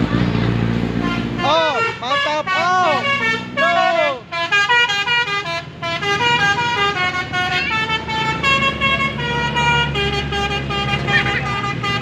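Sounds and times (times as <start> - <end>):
bus engine rumble: 0.0 - 12.0
bus horn playing melody: 0.9 - 12.0.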